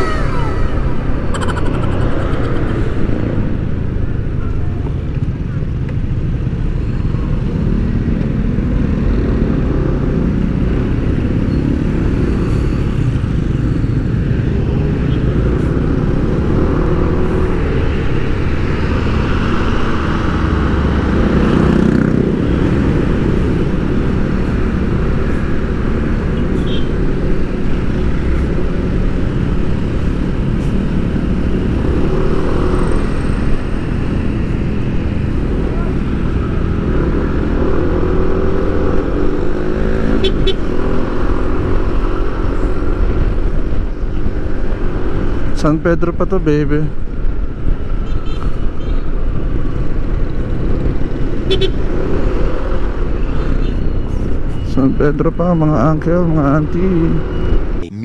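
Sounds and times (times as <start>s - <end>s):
vehicle rumbling along road: 0.0s - 58.0s.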